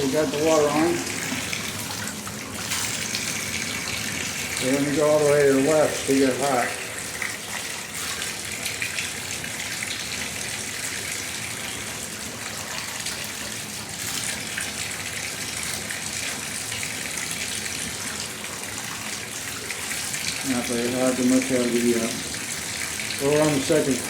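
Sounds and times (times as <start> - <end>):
shower water running: 0.0 - 24.0.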